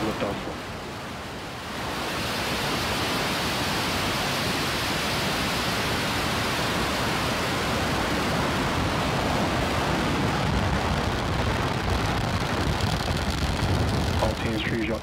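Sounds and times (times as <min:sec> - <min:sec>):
rocket engines roaring: 0:00.0 - 0:15.0.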